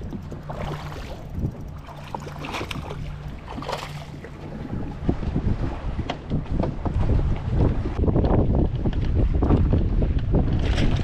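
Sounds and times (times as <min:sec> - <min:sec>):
boat motor humming: 0:00.0 - 0:11.0
wind noise on microphone: 0:00.0 - 0:11.0.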